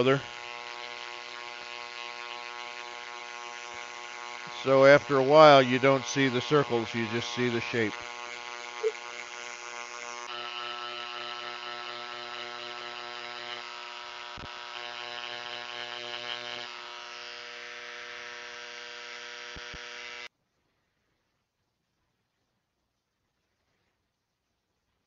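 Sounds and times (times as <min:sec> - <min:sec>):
electric engraver buzzing: 0:00.0 - 0:20.3.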